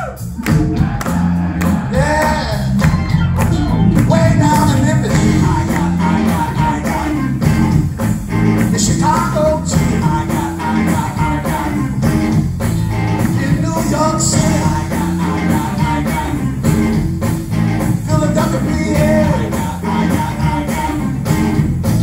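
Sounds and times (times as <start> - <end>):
bass guitar: 0.0 - 22.0
drums: 0.0 - 22.0
keyboard: 0.0 - 22.0
electric guitar lead: 0.4 - 22.0.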